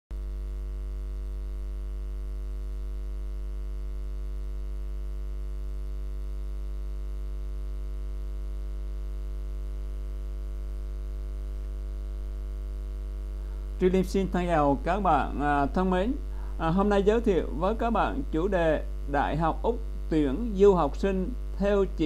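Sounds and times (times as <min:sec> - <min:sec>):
electrical mains hum: 0:00.1 - 0:22.0.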